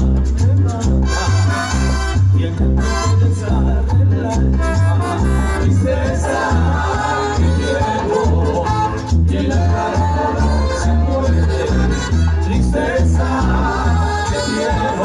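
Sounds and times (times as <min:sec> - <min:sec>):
latin dance orchestra playing: 0:01.0 - 0:03.6, 0:04.5 - 0:15.0.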